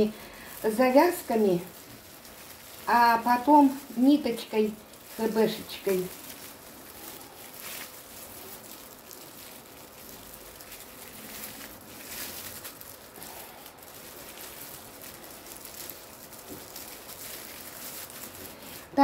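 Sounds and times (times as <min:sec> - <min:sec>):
plastic film crinkling: 0:00.0 - 0:19.0.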